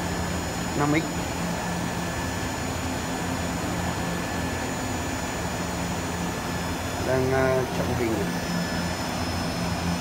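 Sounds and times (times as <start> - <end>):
printer fans humming: 0.0 - 10.0.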